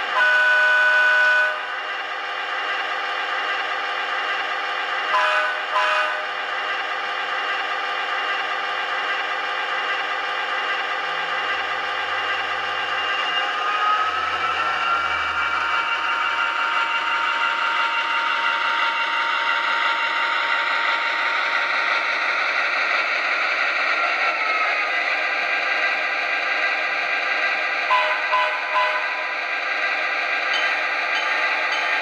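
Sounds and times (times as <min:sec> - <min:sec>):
model locomotive diesel engine sound: 0:00.0 - 0:32.0.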